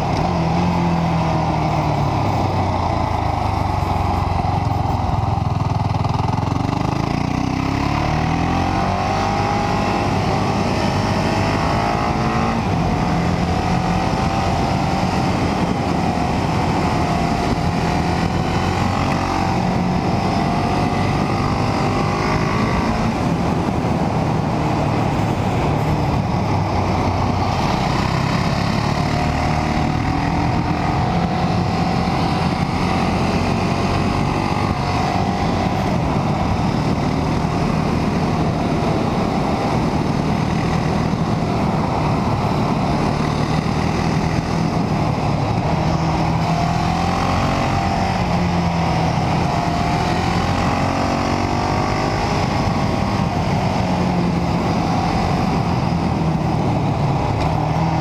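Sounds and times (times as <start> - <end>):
motorcycle engine pulling uphill: 0.0 - 58.0.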